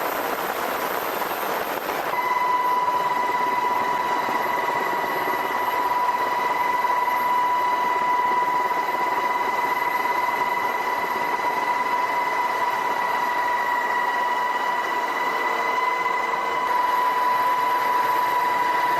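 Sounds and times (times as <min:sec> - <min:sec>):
helicopter whine and rushing: 0:00.0 - 0:18.9.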